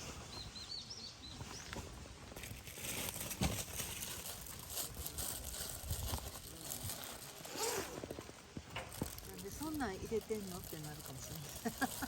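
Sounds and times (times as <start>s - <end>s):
campfire crackling: 2.2s - 12.0s.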